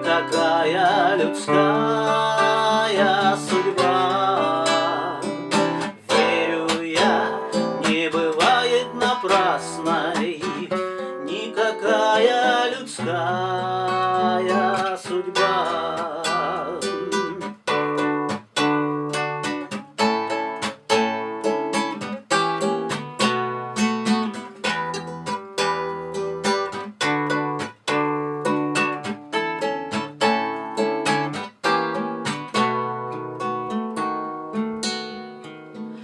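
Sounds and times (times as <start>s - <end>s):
acoustic guitar picking: 0.0s - 36.0s.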